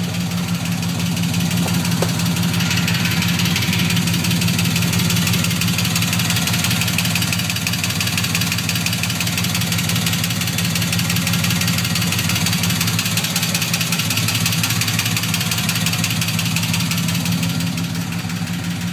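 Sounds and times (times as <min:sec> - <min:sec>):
car engine idling: 0:00.0 - 0:18.9
fast light engine ticking: 0:00.0 - 0:18.9.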